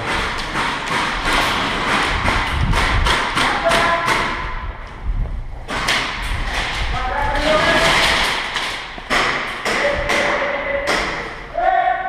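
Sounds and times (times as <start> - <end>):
pellets striking walls: 0.0 - 4.6, 5.7 - 11.4.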